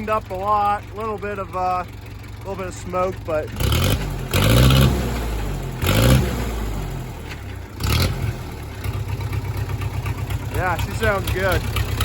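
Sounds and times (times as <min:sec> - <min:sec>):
bulldozer diesel engine revving: 0:00.0 - 0:12.0
diesel engine idling: 0:00.0 - 0:12.0.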